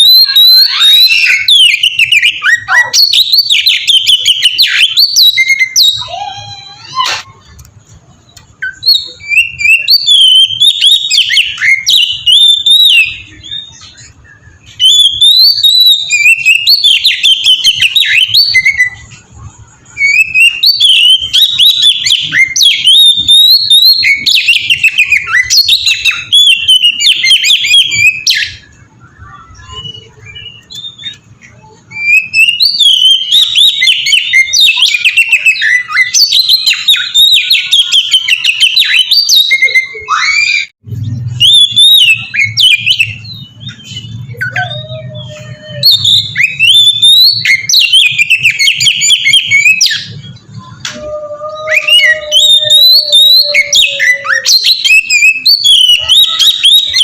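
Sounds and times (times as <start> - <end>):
bird singing whistled phrases: 0.0 - 7.6, 8.3 - 57.0.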